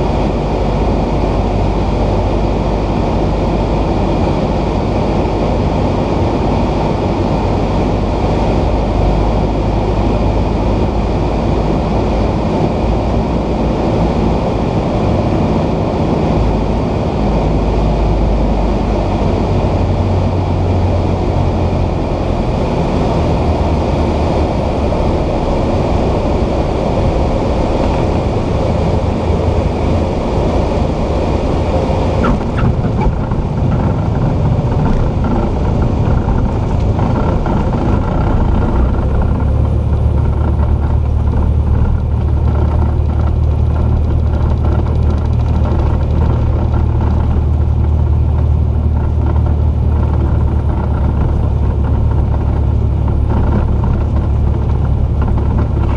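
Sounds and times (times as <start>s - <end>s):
piston engine and propeller drone: 0.0s - 55.9s.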